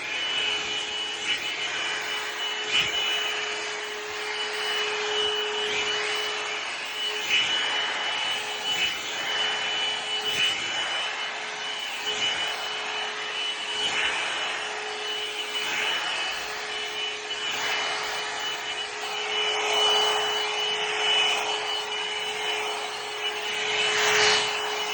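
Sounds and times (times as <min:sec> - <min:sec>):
hair dryer running: 0:00.0 - 0:24.9.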